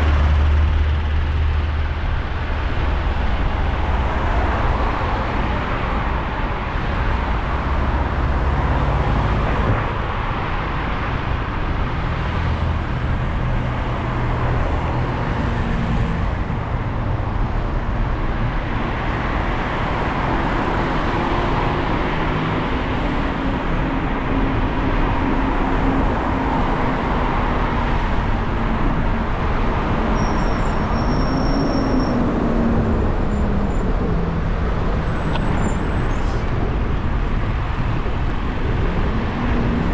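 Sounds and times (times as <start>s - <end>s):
road traffic on wet street: 0.0s - 39.9s
vehicle engine hum: 0.0s - 39.9s.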